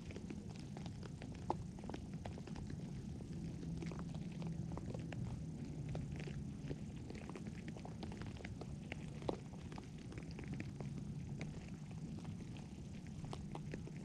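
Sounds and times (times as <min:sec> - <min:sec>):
low purr: 0:00.0 - 0:14.0
pet chewing crunchy food: 0:00.0 - 0:14.0.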